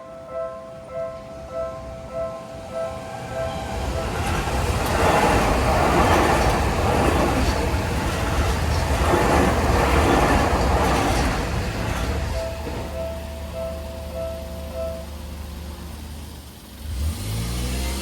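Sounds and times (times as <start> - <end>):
crossing bell dinging: 0.0 - 16.2
train wheels running on rail: 0.9 - 17.3.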